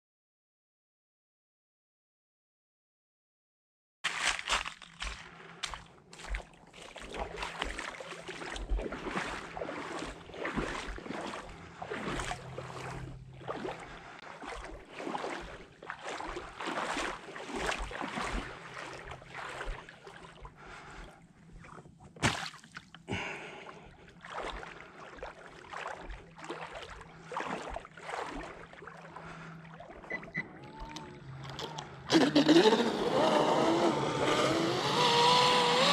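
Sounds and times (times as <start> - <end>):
water splashing: 4.1 - 33.2.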